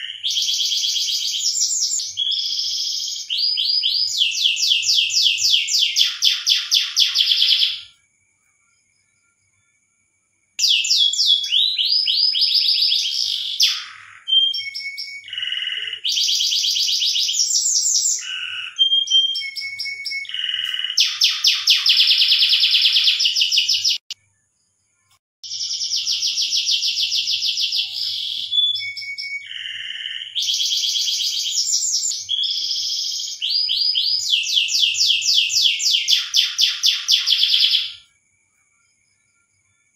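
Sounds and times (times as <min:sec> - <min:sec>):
canary singing trills: 0:00.0 - 0:08.0, 0:10.6 - 0:24.2, 0:25.1 - 0:38.1.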